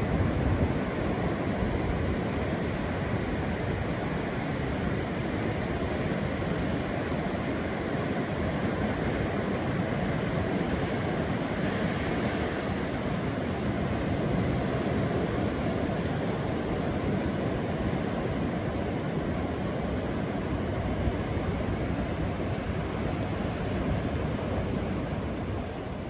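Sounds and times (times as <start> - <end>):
sea surf: 0.0 - 26.0
wind: 0.0 - 26.0.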